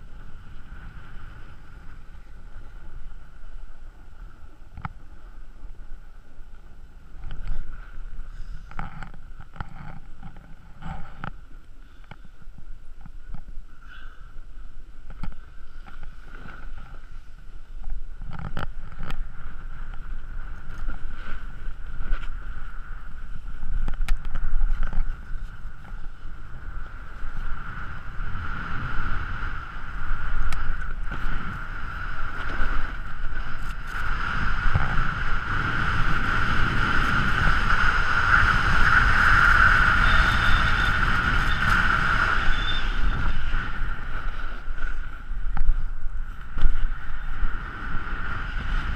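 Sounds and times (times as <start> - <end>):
steady high-pitched whine: 0.0 - 48.9
wind on microphone: 0.0 - 48.9.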